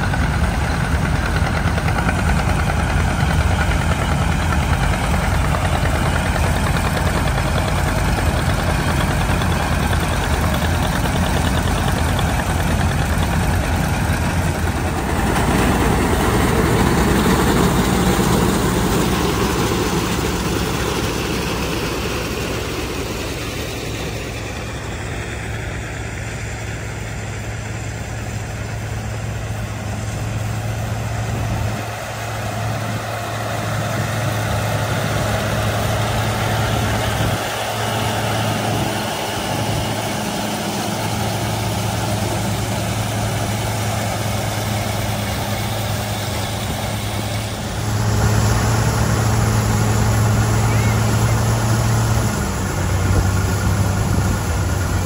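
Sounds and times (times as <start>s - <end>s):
picking machinery noise: 0.0s - 55.0s
tractor engines running: 0.0s - 55.0s.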